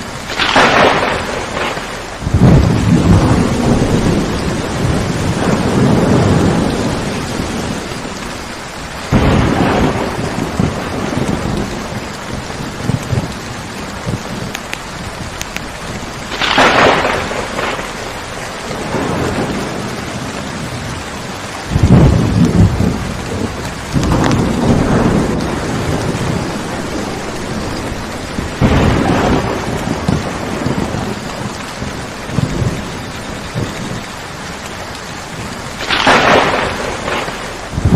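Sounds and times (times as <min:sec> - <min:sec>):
steady rainfall: 0:00.0 - 0:37.9
thunder rumbling: 0:00.0 - 0:37.9.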